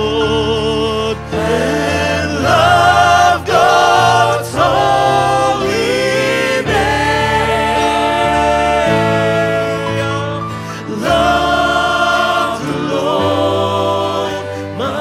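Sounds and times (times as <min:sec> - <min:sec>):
sustained instrumental backing: 0:00.0 - 0:15.0
voices singing held notes: 0:00.0 - 0:15.0.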